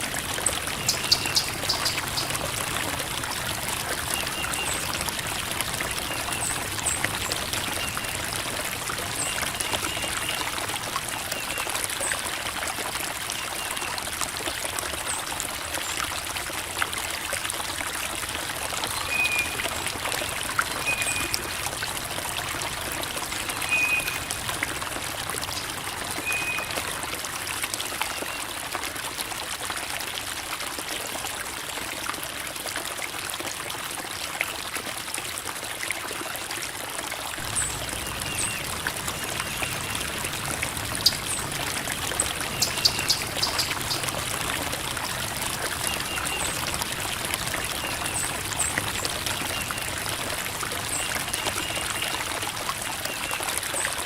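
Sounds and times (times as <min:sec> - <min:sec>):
creek water babbling over rocks: 0:00.0 - 0:54.0.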